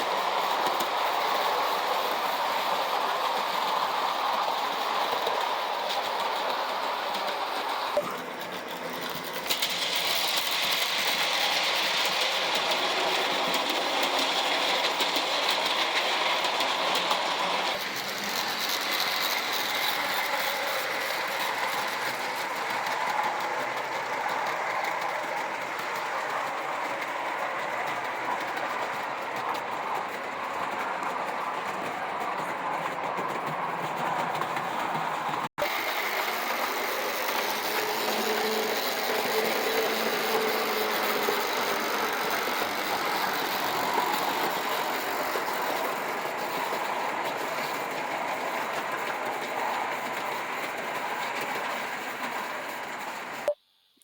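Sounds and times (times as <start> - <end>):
model train wheels on rails: 0.0 - 54.0.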